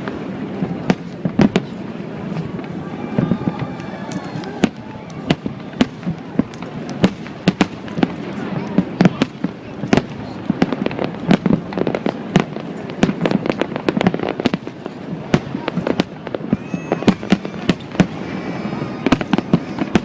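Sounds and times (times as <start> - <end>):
fireworks bangs and cracks: 0.0 - 20.0.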